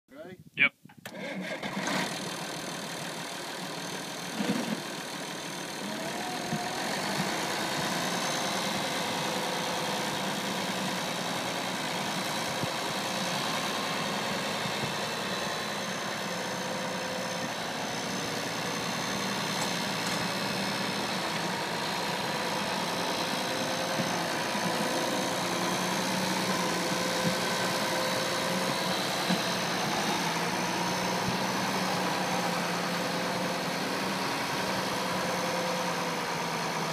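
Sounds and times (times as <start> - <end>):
diesel engine running: 1.1 - 36.9.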